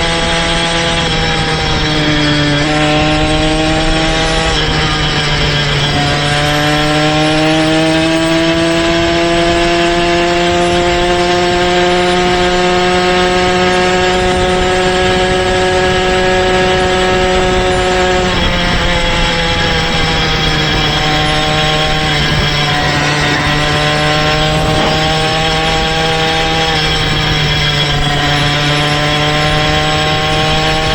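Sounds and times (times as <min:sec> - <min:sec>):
small motorized bicycle engine: 0:00.0 - 0:30.9.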